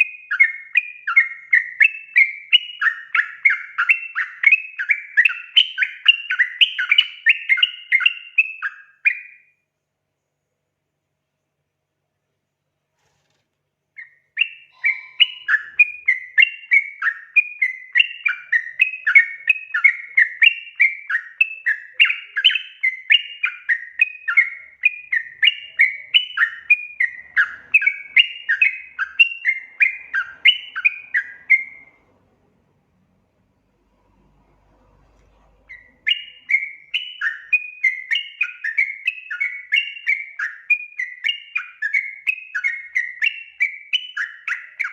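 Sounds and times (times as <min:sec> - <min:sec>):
bird singing bubbly whistles: 0:00.0 - 0:09.5, 0:14.0 - 0:32.0, 0:35.7 - 0:44.9.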